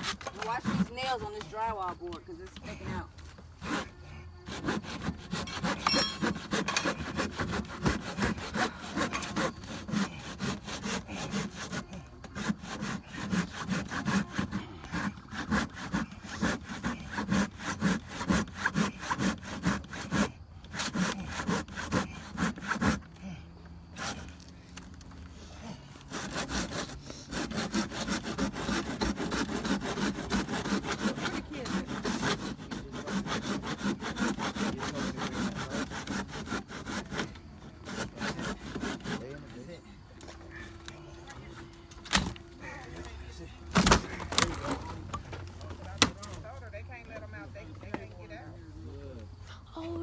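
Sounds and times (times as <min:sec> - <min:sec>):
saw cutting through wood: 0:00.0 - 0:24.5, 0:25.3 - 0:48.1.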